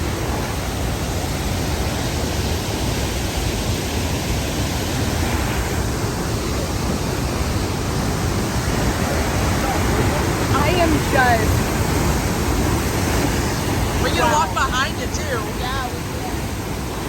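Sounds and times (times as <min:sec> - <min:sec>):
loud waterfall roar: 0:00.0 - 0:17.0.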